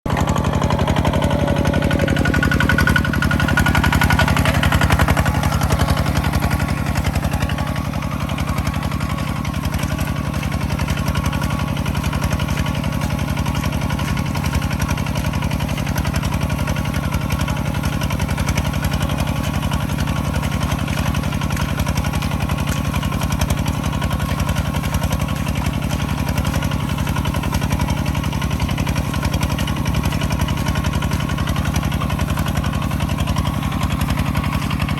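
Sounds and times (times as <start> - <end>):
harvester engine running: 0.0 - 34.9.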